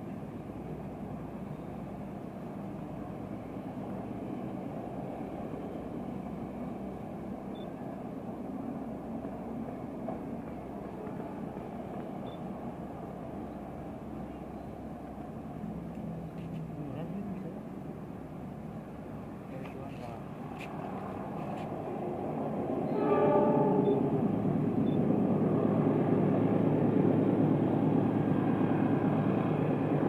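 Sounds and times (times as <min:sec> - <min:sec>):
distant low engine rumble: 0:00.0 - 0:30.0.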